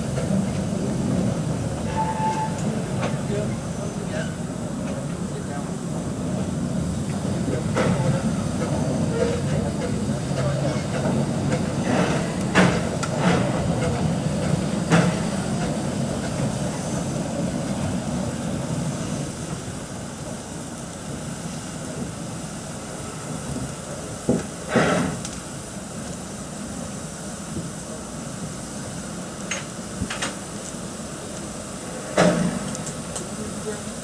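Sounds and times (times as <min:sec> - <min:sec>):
steam train rumbling: 0:00.0 - 0:34.0.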